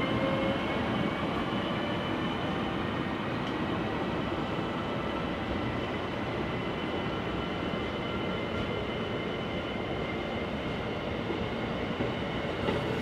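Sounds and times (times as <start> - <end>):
moving train: 0.0 - 13.0.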